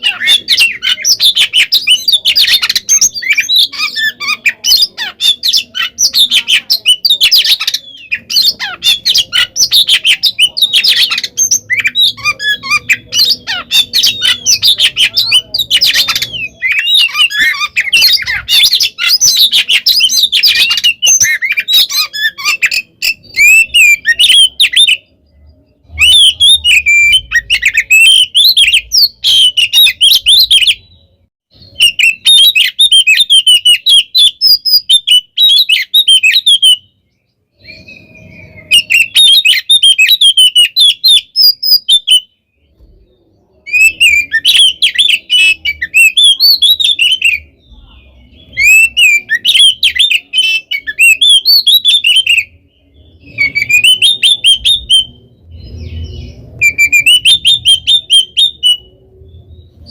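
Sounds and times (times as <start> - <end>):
bird singing whistled song: 0.0 - 59.9.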